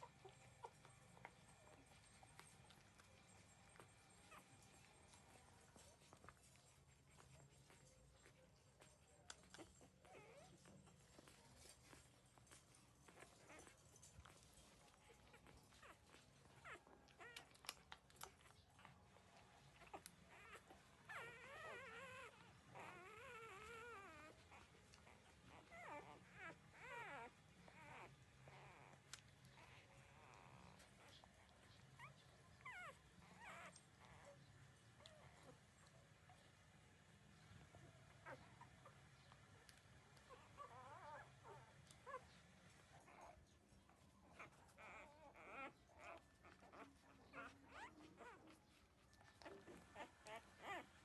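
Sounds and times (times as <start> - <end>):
puppies whimpering: 0.0 - 36.6, 37.4 - 51.0.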